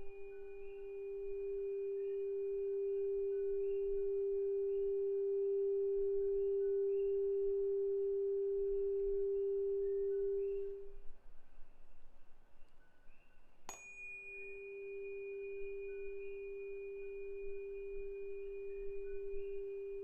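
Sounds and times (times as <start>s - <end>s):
tuning fork ringing: 0.0s - 12.0s, 12.6s - 20.0s.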